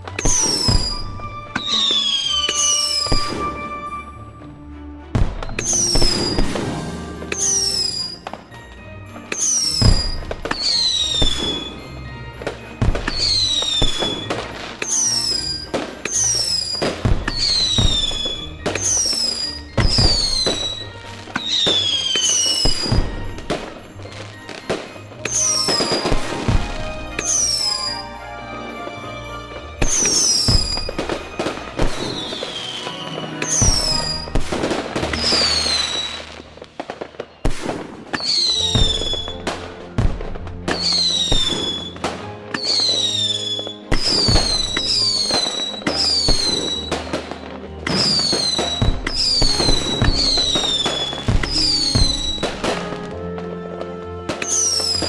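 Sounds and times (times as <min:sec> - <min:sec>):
firework bangs: 0:00.0 - 0:04.1, 0:05.1 - 0:55.0
background music: 0:00.0 - 0:55.0
whistling fireworks: 0:00.0 - 0:55.0.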